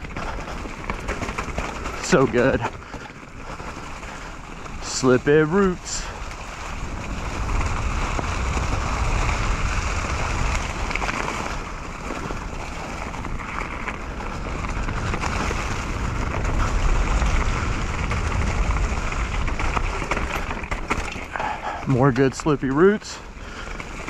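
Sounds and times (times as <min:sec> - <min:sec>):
bike tyres on damp dirt trail: 0:00.0 - 0:24.0
wind rushing over microphone: 0:00.0 - 0:24.0.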